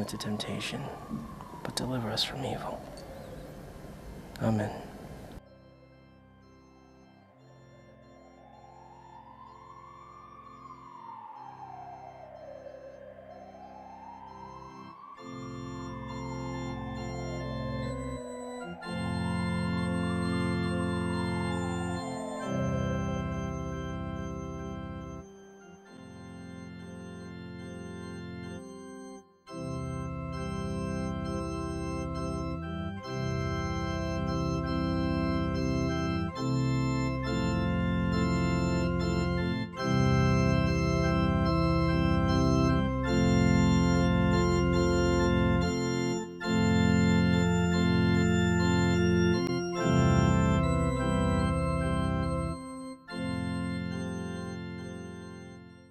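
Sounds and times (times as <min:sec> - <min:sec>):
organ playing sustained chords: 0:00.0 - 0:55.9.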